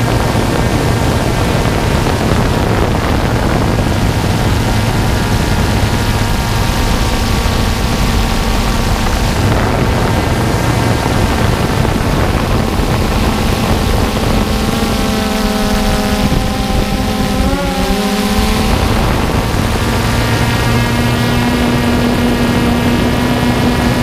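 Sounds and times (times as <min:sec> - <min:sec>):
drone propellers whirring: 0:00.0 - 0:24.0
motor whine: 0:00.0 - 0:24.0
rushing air: 0:00.0 - 0:24.0.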